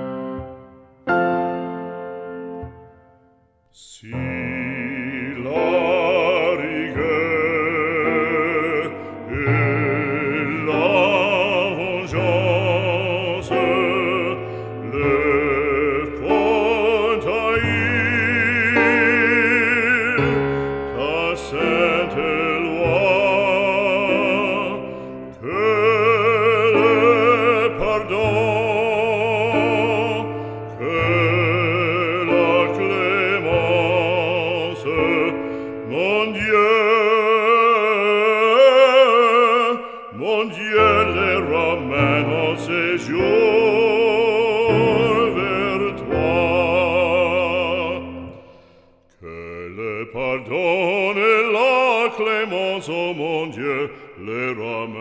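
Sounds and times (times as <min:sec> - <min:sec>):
operatic singing with vibrato: 0:03.7 - 0:55.0.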